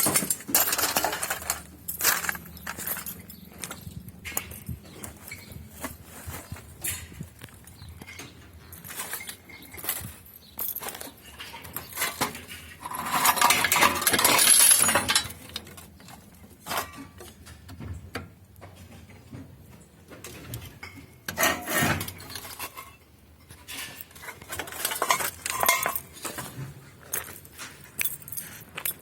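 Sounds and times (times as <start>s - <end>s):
scrap metal clinking and clattering: 0.0s - 17.6s, 20.2s - 29.0s.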